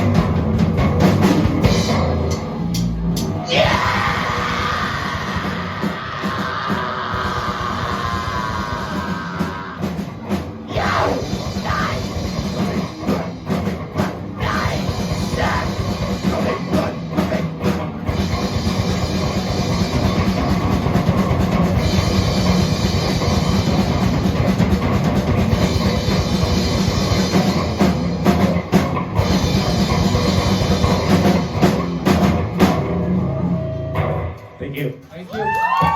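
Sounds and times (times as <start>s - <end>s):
bass guitars: 0.0s - 35.9s
drum kit: 0.0s - 35.9s.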